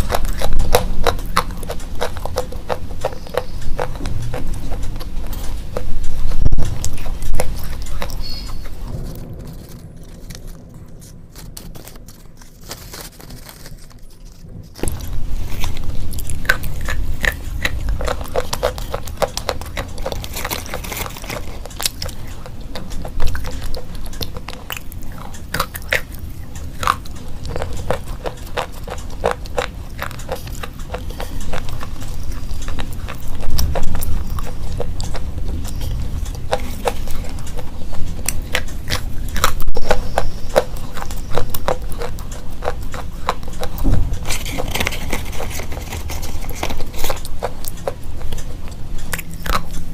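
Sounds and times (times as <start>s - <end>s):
slate pencils being chewed: 0.0s - 49.9s.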